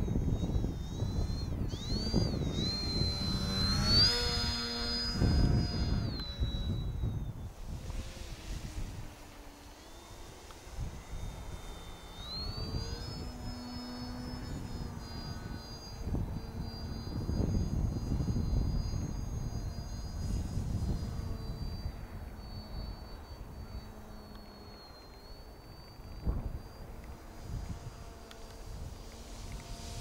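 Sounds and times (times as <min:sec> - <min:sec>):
model plane motor whining: 0:00.0 - 0:30.0
wind rumbling on microphone: 0:00.0 - 0:30.0.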